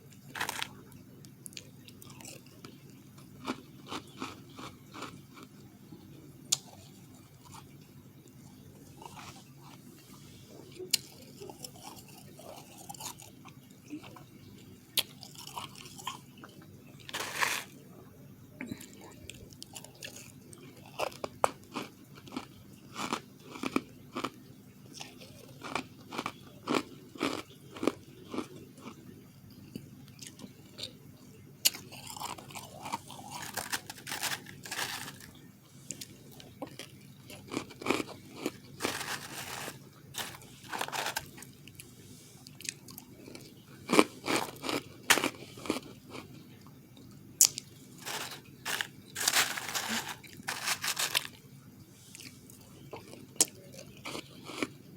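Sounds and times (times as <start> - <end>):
ice being chewed crunching: 0.2 - 5.6, 6.5 - 7.8, 8.5 - 9.9, 10.8 - 17.8, 18.9 - 29.0, 31.6 - 46.4, 47.4 - 51.4, 52.2 - 54.8.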